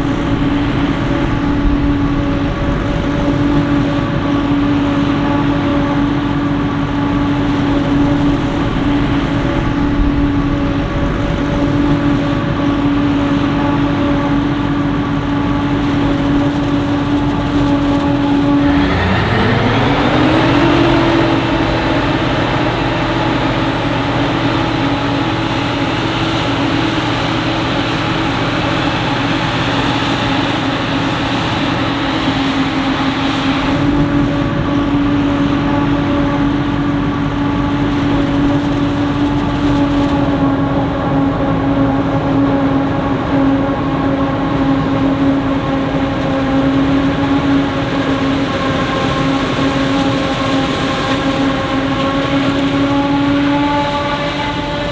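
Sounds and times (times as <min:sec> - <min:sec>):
forage harvester running: 0:00.0 - 0:54.9.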